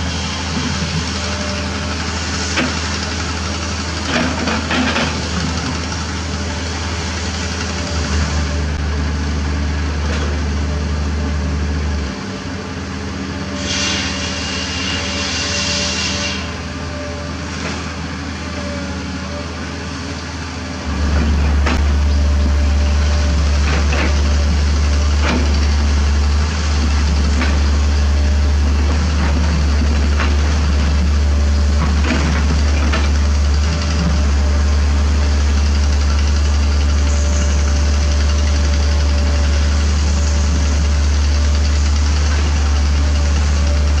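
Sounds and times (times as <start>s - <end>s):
excavator diesel engines droning: 0.0s - 44.0s.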